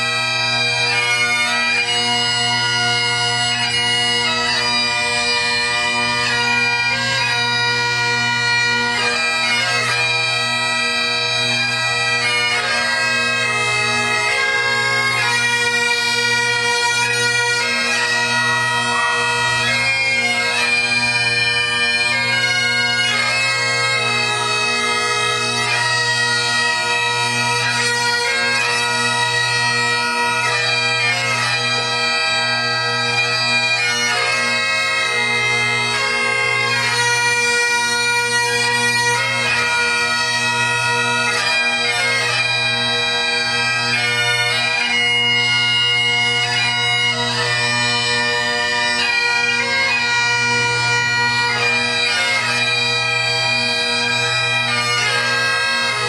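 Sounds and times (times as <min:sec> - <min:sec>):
bagpipe drone: 0:00.0 - 0:56.0
bagpipes playing melody: 0:00.0 - 0:56.0.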